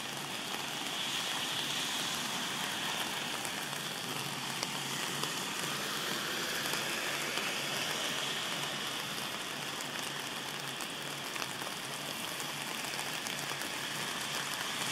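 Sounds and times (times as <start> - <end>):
water pattering on flooded street: 0.0 - 14.9.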